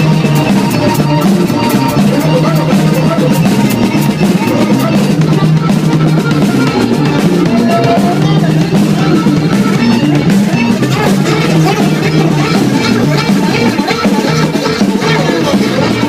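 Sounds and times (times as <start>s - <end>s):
guitar and drum kit music: 0.0s - 16.0s.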